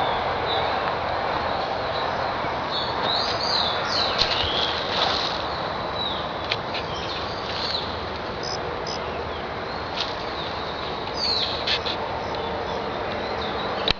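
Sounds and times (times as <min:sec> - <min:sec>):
outdoor ambience hiss: 0:00.0 - 0:13.9
birds chirping: 0:01.8 - 0:13.9.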